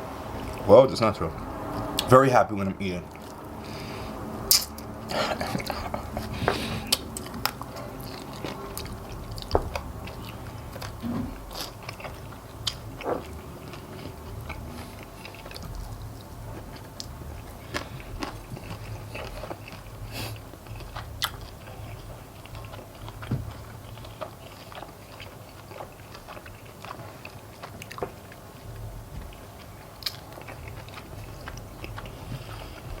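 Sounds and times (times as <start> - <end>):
chewing crunchy chicken: 2.8 - 33.0
bones crunching and cracking: 4.5 - 33.0.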